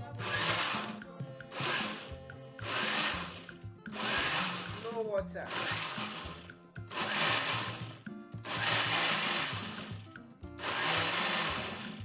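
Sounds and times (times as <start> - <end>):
blender motor and blade running: 0.0 - 12.0.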